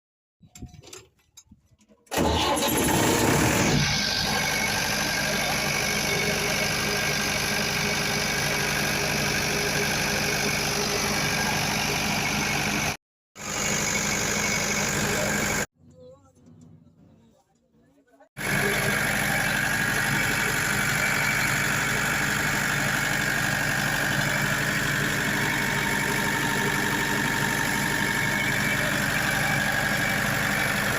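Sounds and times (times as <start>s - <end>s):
diesel generator engine running: 2.1s - 17.1s, 18.4s - 30.9s.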